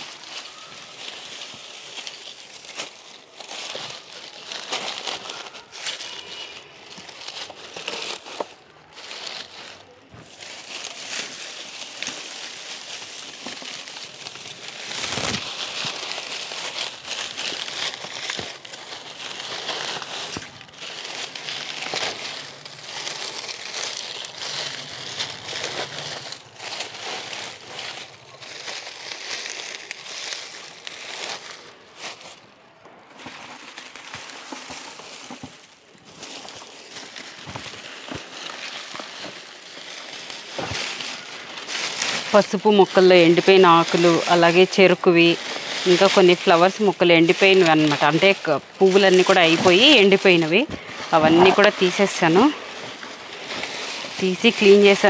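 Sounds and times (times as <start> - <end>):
dry leaves crunching: 0.0 - 55.0.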